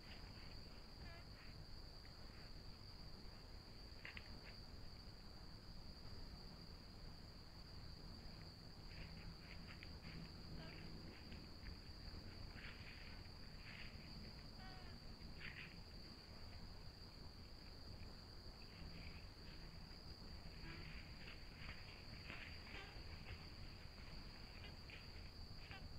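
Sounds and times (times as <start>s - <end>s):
crickets trilling: 0.0s - 25.9s.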